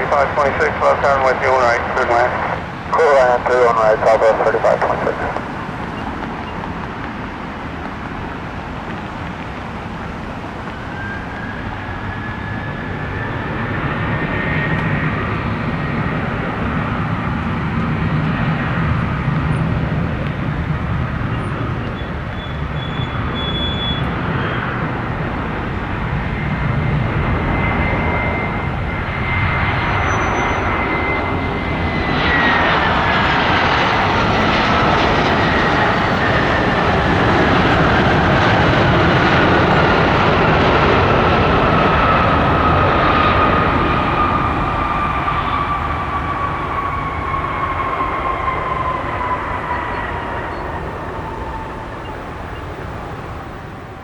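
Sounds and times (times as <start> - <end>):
jet engine whine: 0.0 - 54.0
rushing jet engine noise: 0.0 - 54.0.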